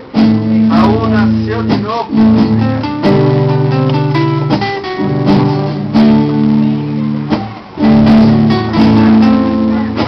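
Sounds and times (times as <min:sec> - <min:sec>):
acoustic guitar picking lead line: 0:00.0 - 0:10.0
acoustic guitar strumming chords: 0:00.0 - 0:10.0.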